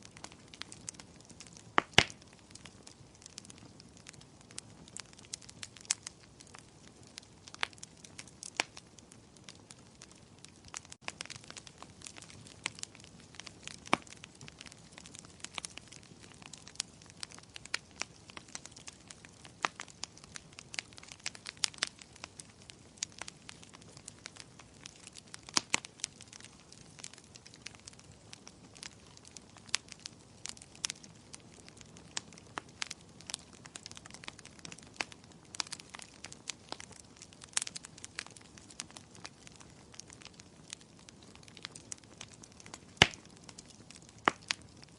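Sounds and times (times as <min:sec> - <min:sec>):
wood fire crackling: 0:00.0 - 0:44.9
sharp pops and snaps: 0:00.2 - 0:06.7, 0:10.1 - 0:28.2, 0:31.6 - 0:44.8.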